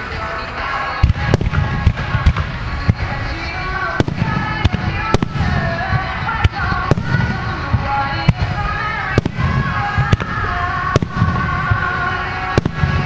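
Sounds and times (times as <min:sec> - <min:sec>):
deep rumble of launches: 0:00.0 - 0:13.0.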